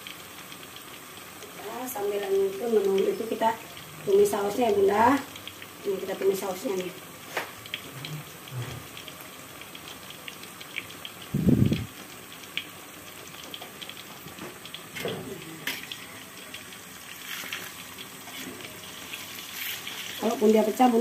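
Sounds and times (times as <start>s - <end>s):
omelette sizzling in hot oil: 0.0s - 21.0s.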